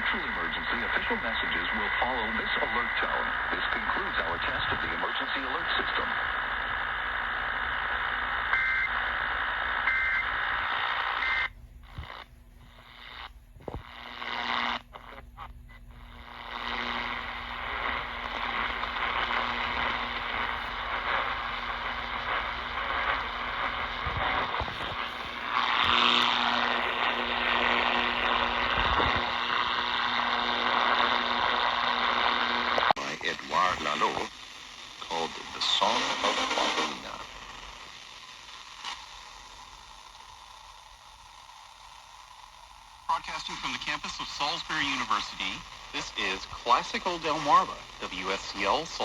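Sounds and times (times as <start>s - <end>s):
radio static hiss: 0.0s - 49.0s.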